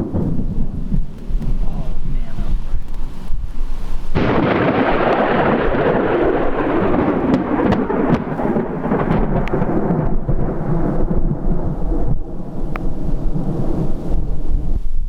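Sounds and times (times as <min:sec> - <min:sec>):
rolling thunder: 0:00.0 - 0:15.0.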